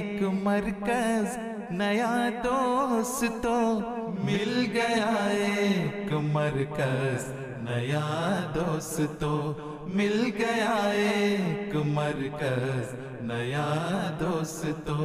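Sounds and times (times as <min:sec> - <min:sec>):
man singing devotional poem: 0:00.0 - 0:15.0.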